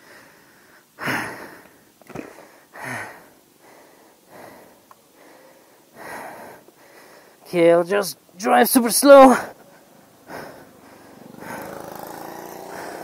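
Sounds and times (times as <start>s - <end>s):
person breathing heavily: 0.0s - 7.5s, 9.3s - 13.0s.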